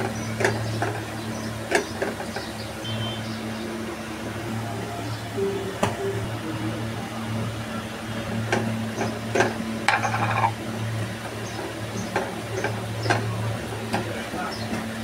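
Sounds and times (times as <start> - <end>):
steady low hum: 2.5 - 15.0.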